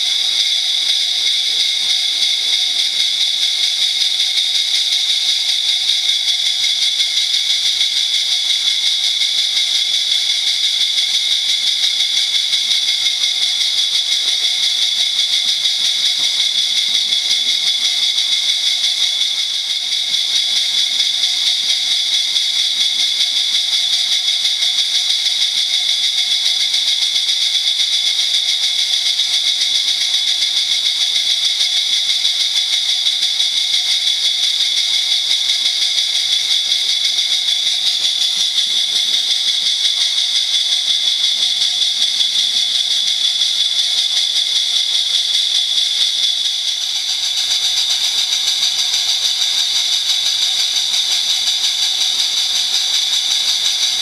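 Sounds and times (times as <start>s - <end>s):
model train motor whine: 0.0s - 54.0s.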